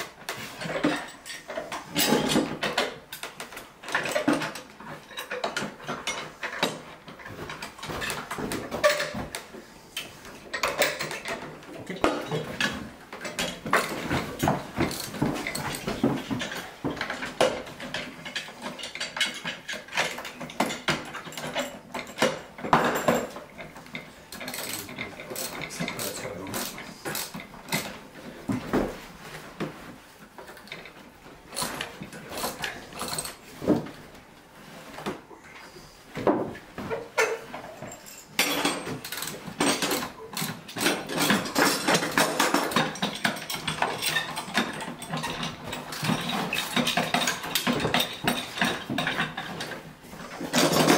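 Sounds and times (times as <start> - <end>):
metal clamps clicking and clanking: 0.3 - 28.0, 30.5 - 33.9, 37.1 - 50.9.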